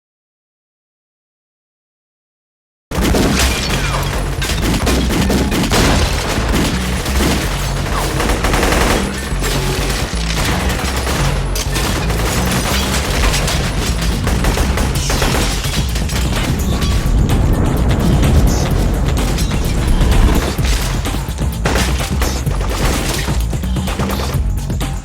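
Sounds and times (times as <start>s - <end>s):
music with pulsing bass: 2.9s - 25.0s
rapid gunfire: 2.9s - 25.0s.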